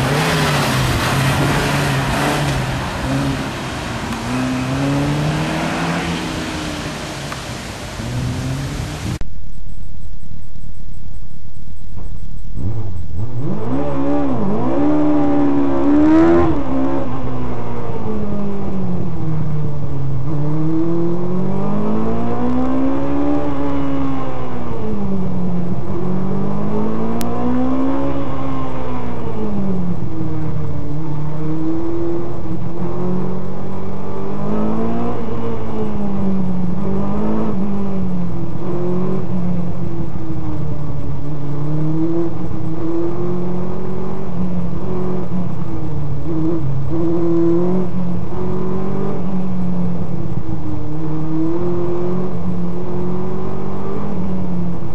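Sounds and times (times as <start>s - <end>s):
race car engine revving: 0.0s - 9.2s, 12.6s - 19.6s, 20.2s - 54.9s.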